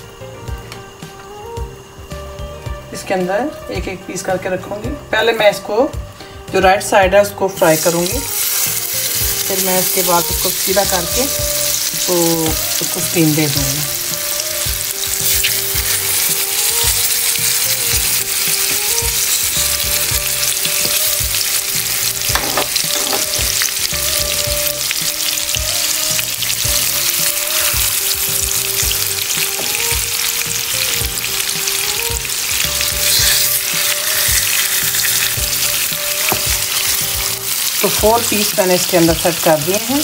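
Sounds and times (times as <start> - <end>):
fish sizzling in hot oil: 0.0 - 40.0.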